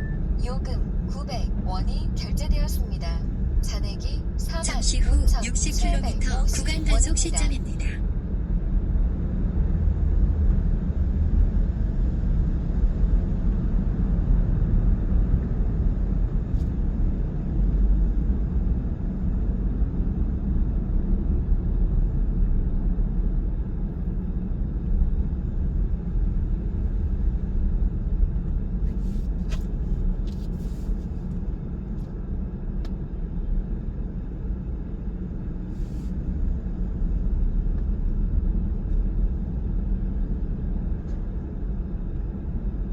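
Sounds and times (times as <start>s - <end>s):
road and tyre rumble in car: 0.0s - 42.9s.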